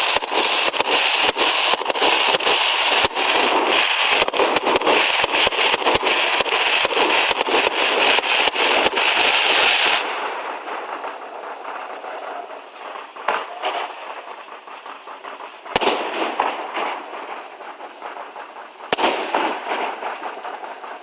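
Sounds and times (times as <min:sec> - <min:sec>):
background hiss: 0:00.0 - 0:21.0
fireworks bangs and crackling: 0:00.0 - 0:21.0.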